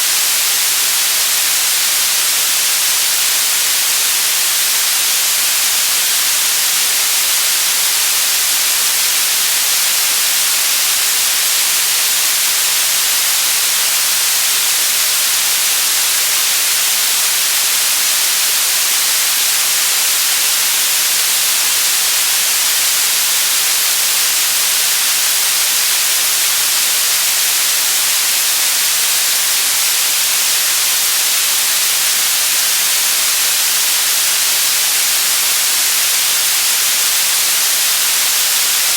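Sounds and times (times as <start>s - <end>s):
loud white noise hiss: 0.0s - 38.9s.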